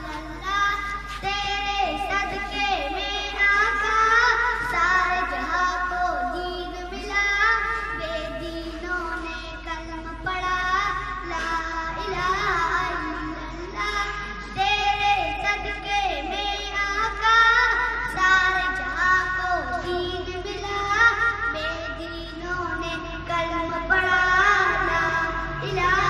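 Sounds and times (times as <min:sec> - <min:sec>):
girl singing into a microphone: 0:00.0 - 0:26.0.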